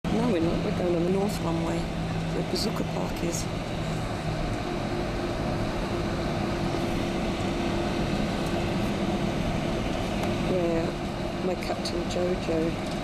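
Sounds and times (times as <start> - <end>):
jet engines and air-conditioning hum: 0.0 - 13.0
low whine: 0.0 - 13.0.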